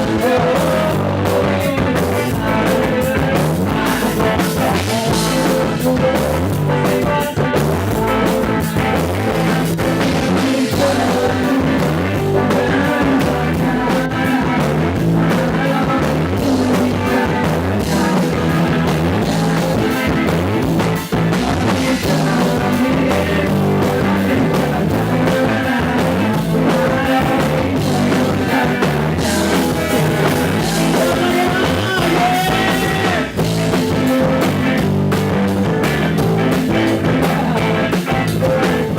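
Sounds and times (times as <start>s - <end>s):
live rock music: 0.0s - 38.9s.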